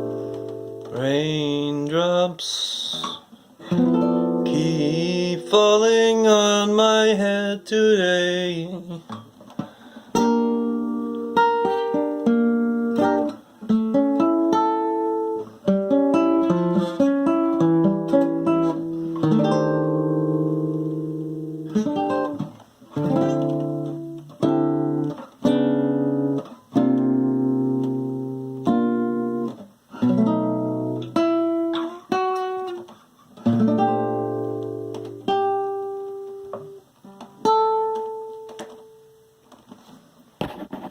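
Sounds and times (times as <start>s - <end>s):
acoustic guitar chords: 0.0s - 40.9s.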